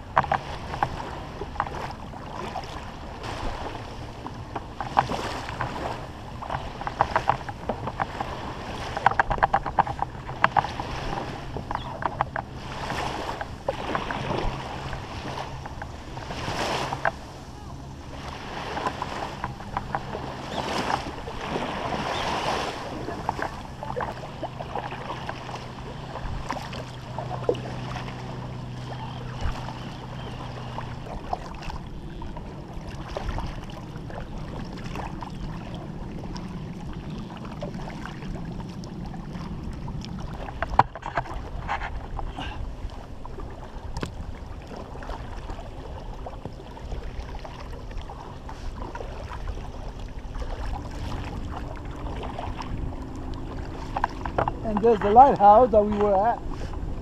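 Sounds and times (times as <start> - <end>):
low steady hum: 0.0 - 57.0
water lapping at kayak hull: 0.0 - 57.0
wind on microphone: 0.0 - 57.0.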